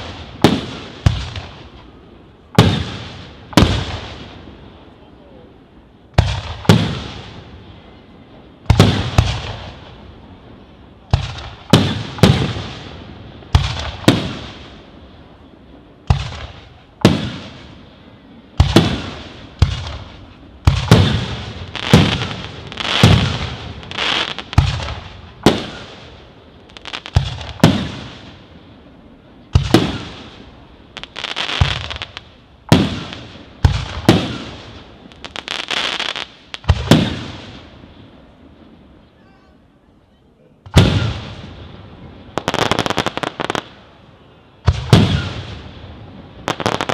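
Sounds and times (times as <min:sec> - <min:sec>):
high crackling hiss: 0:00.0 - 0:46.9.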